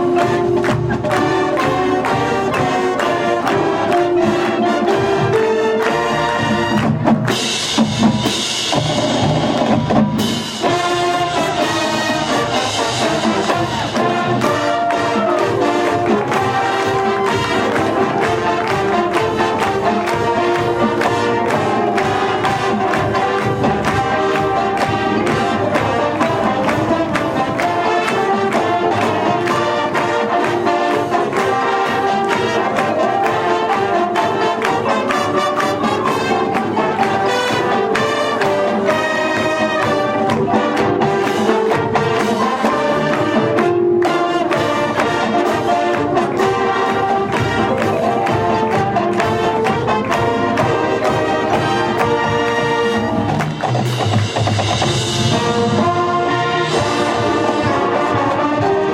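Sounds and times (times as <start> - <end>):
brass band playing: 0.0 - 58.9
steady drum beats: 0.0 - 58.9.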